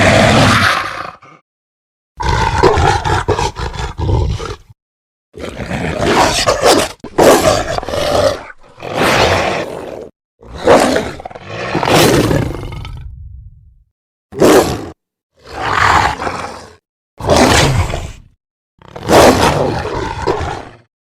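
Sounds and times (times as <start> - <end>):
monstrous growls and roars: 0.0 - 1.4, 2.2 - 13.7, 14.4 - 20.9.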